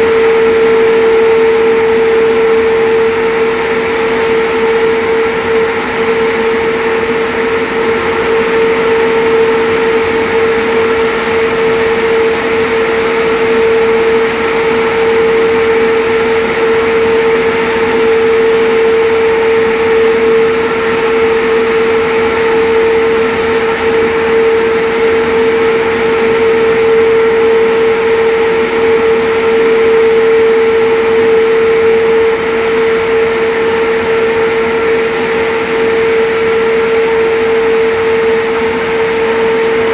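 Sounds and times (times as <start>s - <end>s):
loud machine hum: 0.0s - 39.9s.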